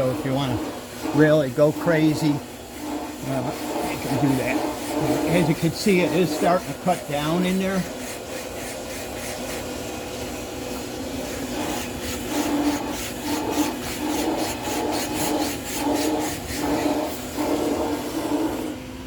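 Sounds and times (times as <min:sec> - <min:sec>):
cord saw rasping through sealant: 0:00.0 - 0:18.8.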